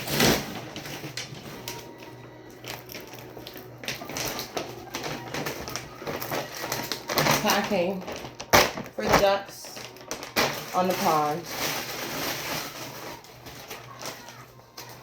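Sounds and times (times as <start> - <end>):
packaging rustling and clicking: 0.0 - 15.0.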